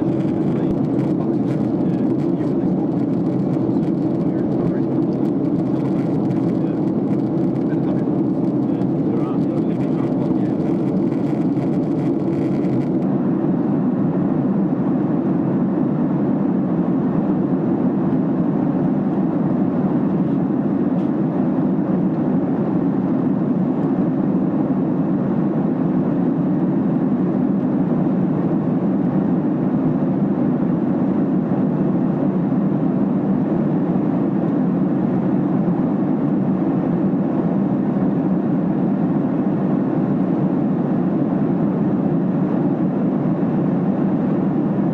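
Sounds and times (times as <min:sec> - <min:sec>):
airliner cabin engine roar: 0:00.0 - 0:44.9.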